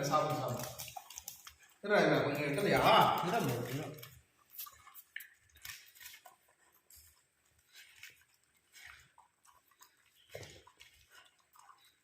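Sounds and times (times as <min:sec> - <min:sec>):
dog chewing wet smacks: 0:00.0 - 0:12.0.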